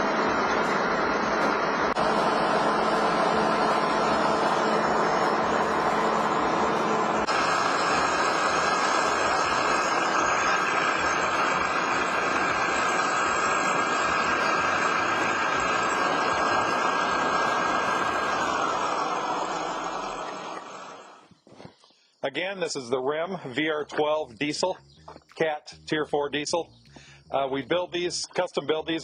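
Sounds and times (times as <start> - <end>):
diesel engine and air rush: 0.0 - 21.3, 25.8 - 28.3
high steady whine: 0.0 - 29.0.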